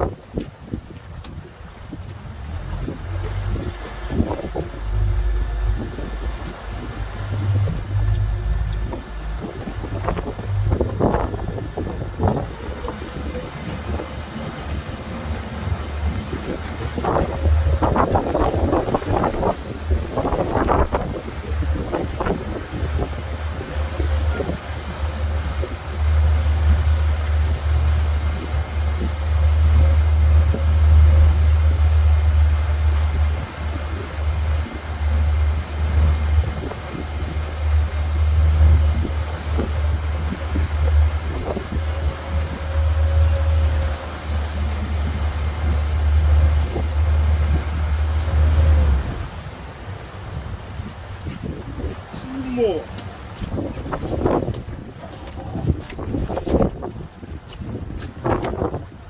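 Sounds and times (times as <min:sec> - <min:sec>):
boat motor rumble: 0:00.0 - 0:59.0
wind buffeting microphone: 0:00.0 - 0:59.0.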